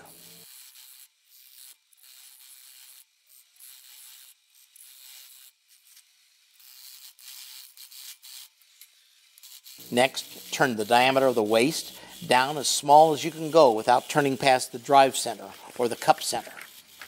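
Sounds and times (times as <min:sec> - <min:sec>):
parting tool scraping wood on lathe: 0:00.0 - 0:17.0.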